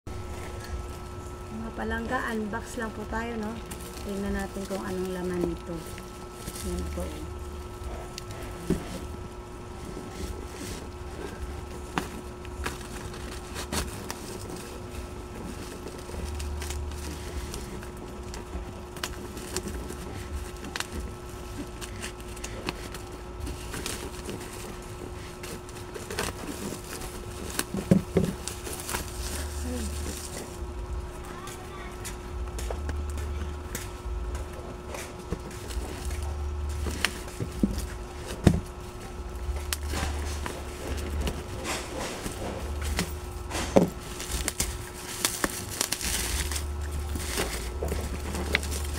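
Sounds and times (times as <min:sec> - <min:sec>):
steady low hum: 0:00.1 - 0:48.9
plastic parcel crinkling: 0:00.2 - 0:48.9
cardboard box being handled: 0:03.6 - 0:30.7, 0:35.0 - 0:48.9.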